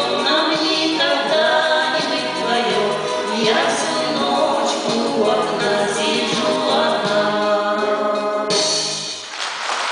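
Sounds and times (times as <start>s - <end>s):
women singing a duet: 0.0s - 9.0s.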